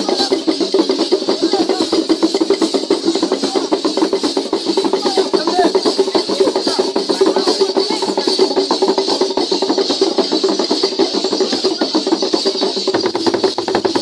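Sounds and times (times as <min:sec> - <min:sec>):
drums played fast: 0:00.0 - 0:14.0.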